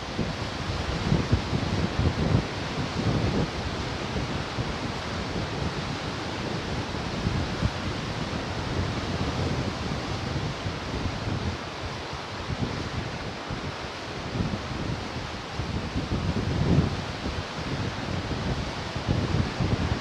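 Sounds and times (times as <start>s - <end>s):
ocean surf washing on shore: 0.0s - 20.0s
wind buffeting microphone: 0.0s - 20.0s.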